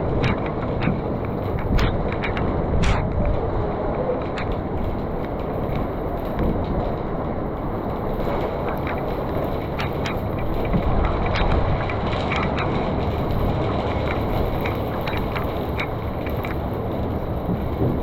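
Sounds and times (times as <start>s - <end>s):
raindrops ticking: 0.0s - 3.4s, 4.2s - 18.0s
rain and wind rumble: 0.0s - 18.0s.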